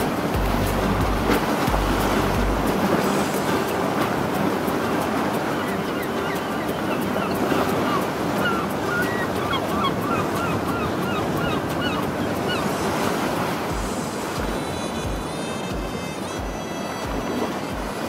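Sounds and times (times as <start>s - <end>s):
birds chirping: 0.0s - 17.4s
ocean surf washing: 0.0s - 18.0s.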